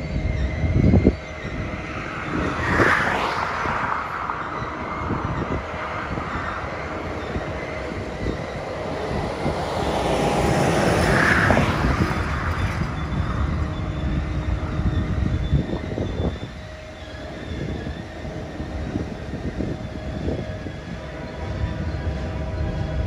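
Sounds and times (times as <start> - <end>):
faint steady whine: 0.0 - 23.0
freight train cars rumbling: 0.0 - 23.0
truck passing close by: 0.9 - 23.0.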